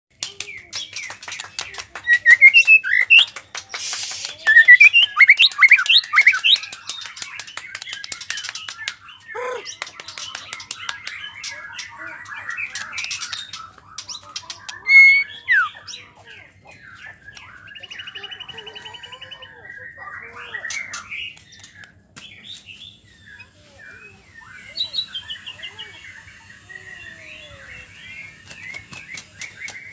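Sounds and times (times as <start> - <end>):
bird singing varied song: 0.1 - 29.9.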